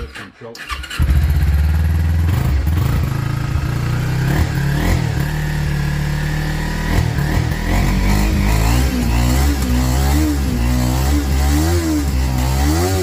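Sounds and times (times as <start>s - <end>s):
motorcycle engine idling: 0.8s - 11.3s.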